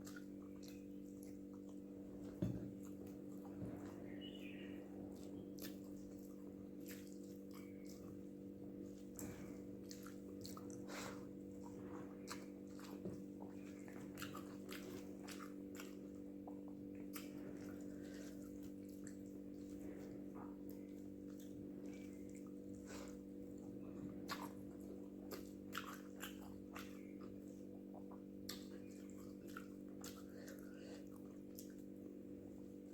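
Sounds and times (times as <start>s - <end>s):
steady low hum: 0.0s - 32.9s
wet chewing: 0.0s - 32.9s.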